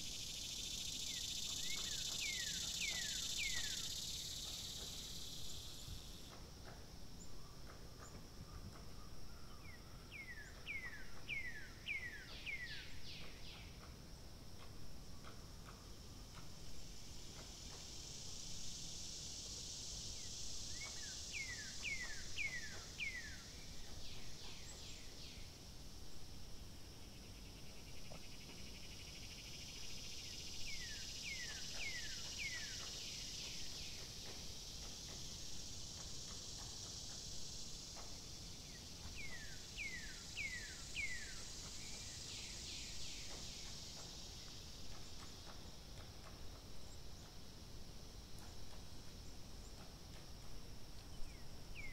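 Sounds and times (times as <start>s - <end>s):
high insect hiss: 0.0s - 51.9s.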